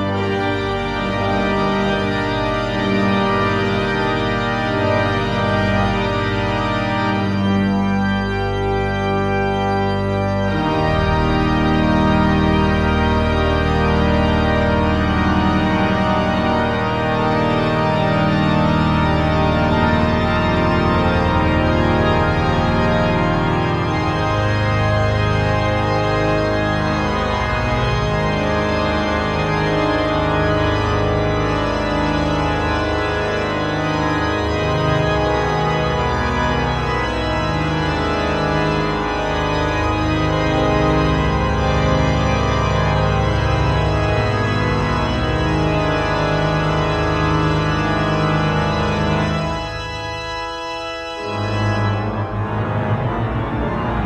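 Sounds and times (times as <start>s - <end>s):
deep organ pedal bass: 0.0s - 54.0s
pipe organ chords: 0.0s - 54.0s.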